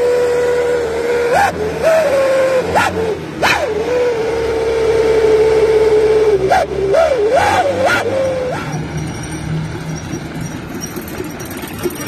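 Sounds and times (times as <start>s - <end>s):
howling exhaust whistle: 0.0s - 11.6s.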